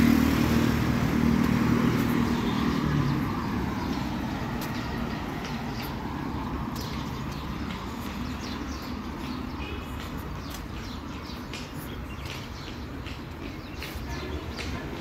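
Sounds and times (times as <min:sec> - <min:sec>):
city traffic rumble: 0:00.0 - 0:15.0
small birds chirping: 0:00.7 - 0:15.0.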